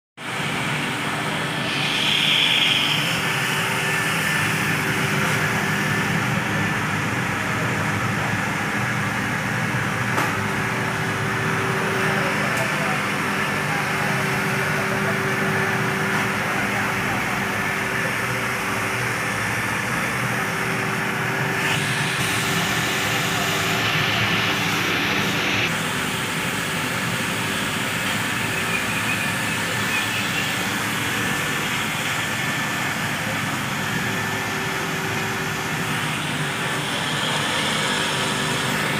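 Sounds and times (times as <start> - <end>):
machine hum: 0.2 - 38.9.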